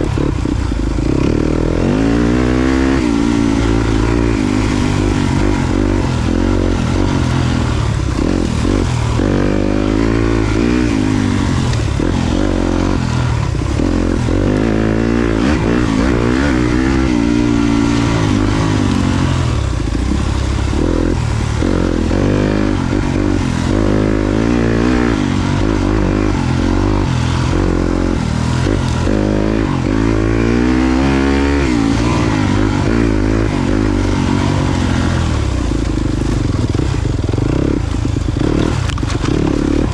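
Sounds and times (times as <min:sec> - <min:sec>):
motorcycle engine revving off-road: 0:00.0 - 0:39.9.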